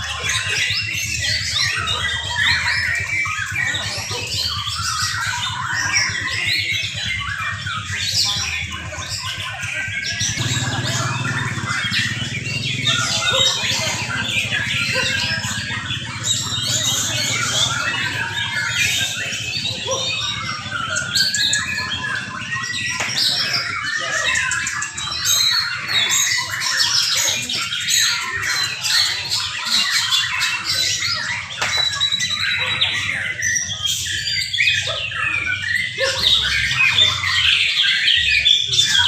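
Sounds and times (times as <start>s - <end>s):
birds singing: 0.0s - 39.0s.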